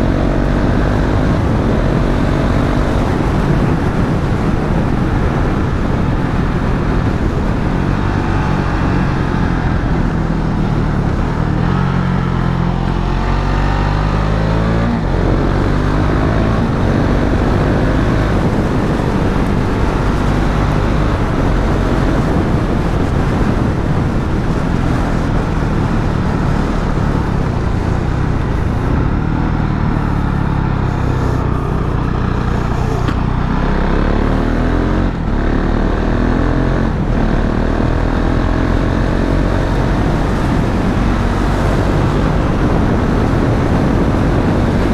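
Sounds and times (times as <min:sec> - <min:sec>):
motorcycle engine revving: 0:00.0 - 0:44.9
wind rush over microphone: 0:00.0 - 0:44.9.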